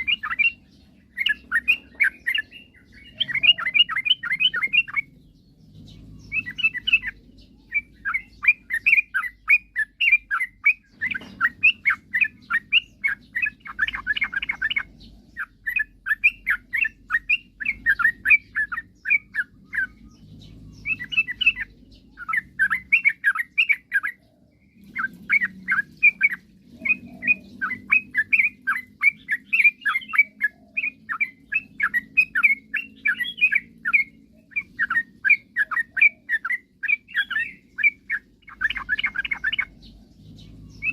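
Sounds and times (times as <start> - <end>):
bulbul chirping song: 0.0 - 40.9.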